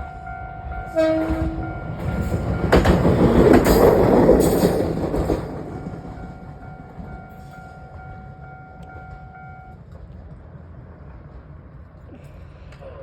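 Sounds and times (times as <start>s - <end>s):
low train rumble: 0.0s - 13.0s.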